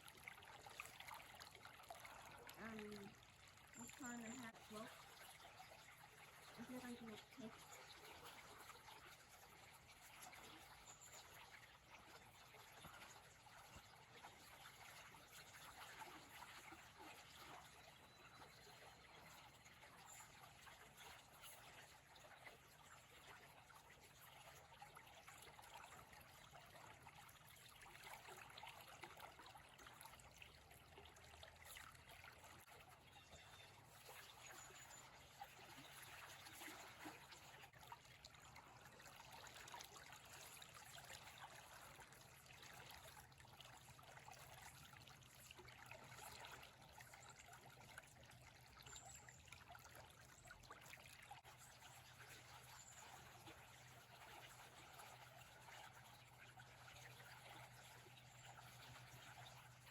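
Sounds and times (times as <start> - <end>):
stream trickling over rocks: 0.0 - 59.9.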